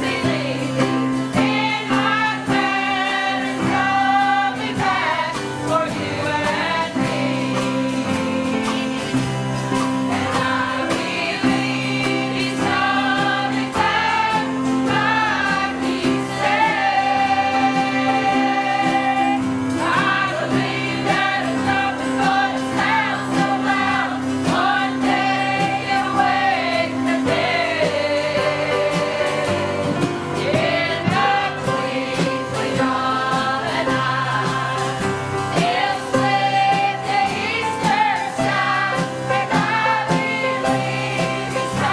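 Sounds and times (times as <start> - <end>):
group singing gospel song: 0.0 - 41.9
instrumental accompaniment: 0.0 - 41.9.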